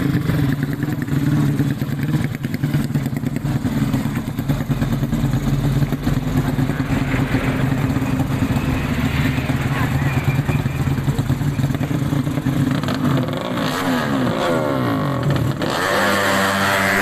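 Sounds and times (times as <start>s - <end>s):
motorcycle engine at fast idle: 0.0s - 14.2s.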